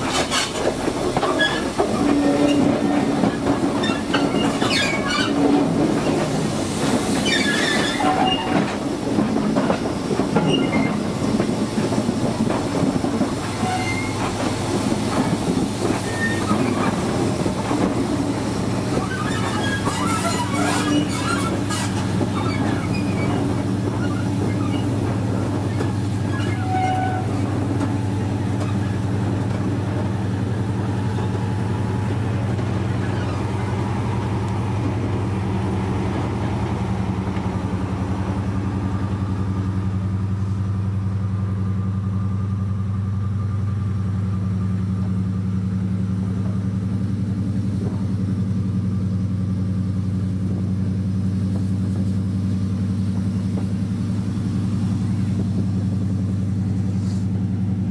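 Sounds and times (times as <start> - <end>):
diesel locomotive engine drone: 0.0 - 57.9.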